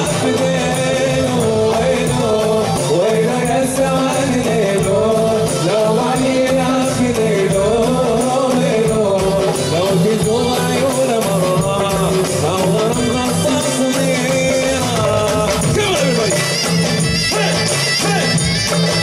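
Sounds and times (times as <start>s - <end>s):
hand drums beating: 0.0s - 19.0s
man singing: 0.0s - 19.0s.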